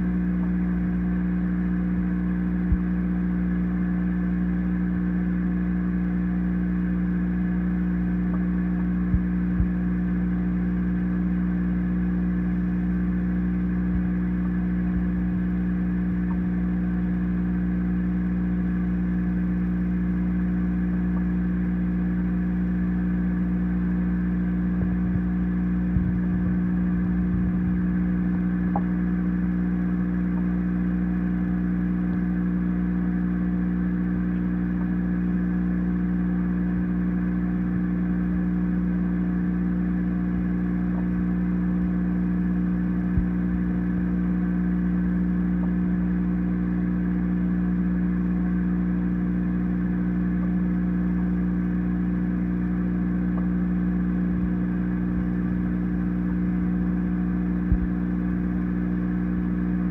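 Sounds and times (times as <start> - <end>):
filter pump motor hum: 0.0 - 59.9.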